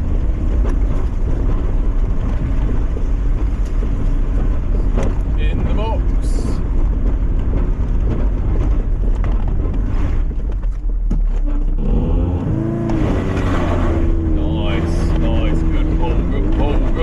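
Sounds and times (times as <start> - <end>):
car engine pulling under load: 0.0 - 17.0.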